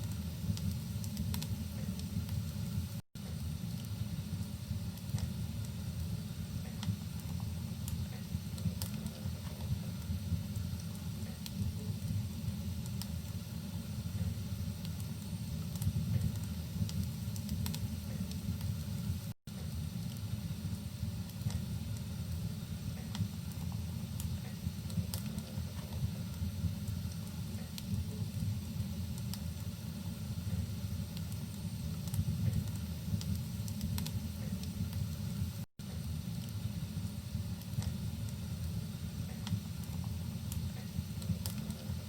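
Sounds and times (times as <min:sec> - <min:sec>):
faint rain falling: 0:00.0 - 0:42.0
wood fire crackling: 0:00.0 - 0:42.0.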